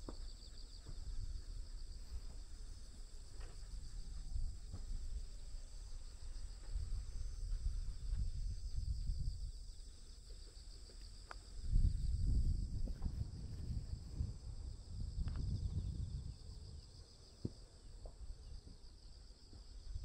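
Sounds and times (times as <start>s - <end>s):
insects chirring: 0.0s - 20.0s
low rumble on microphone: 0.0s - 20.0s.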